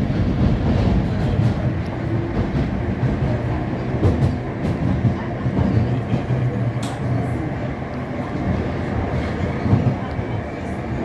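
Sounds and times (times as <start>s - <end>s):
underground train rumbling: 0.0s - 11.0s.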